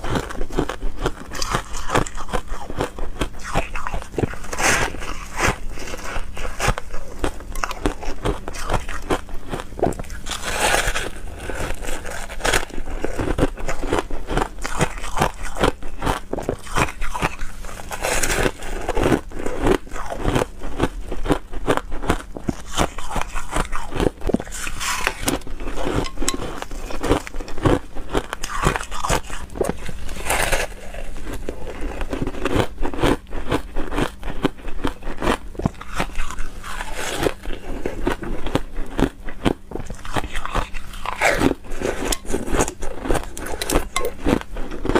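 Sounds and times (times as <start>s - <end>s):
ice being crunched by chewing: 0.0s - 44.9s.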